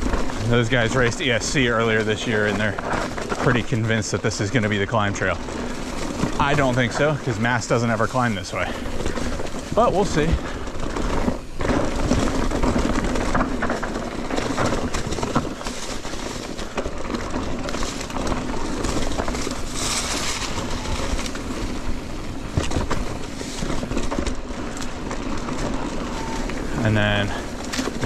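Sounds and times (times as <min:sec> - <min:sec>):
bike tyre noise and rattling: 0:00.0 - 0:28.0
knocks and clatters over bumps: 0:00.0 - 0:28.0.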